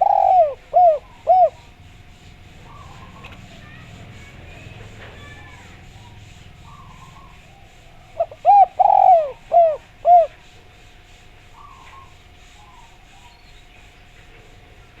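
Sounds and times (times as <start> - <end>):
dove cooing: 0.0 - 13.3.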